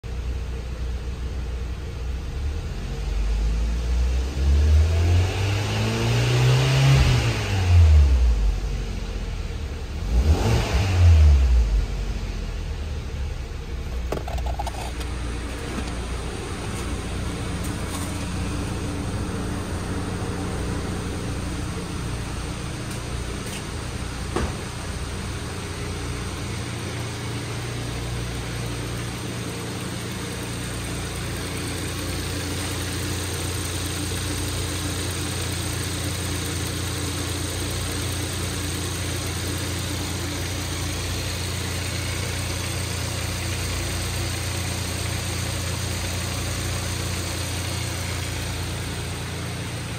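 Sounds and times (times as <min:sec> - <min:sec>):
car engine idling: 0:00.0 - 0:03.9, 0:07.8 - 0:49.9.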